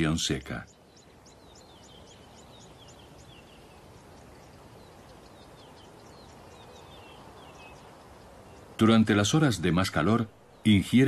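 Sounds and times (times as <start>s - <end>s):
faint bird chirping: 0.0s - 11.0s
low background hiss: 0.0s - 11.0s.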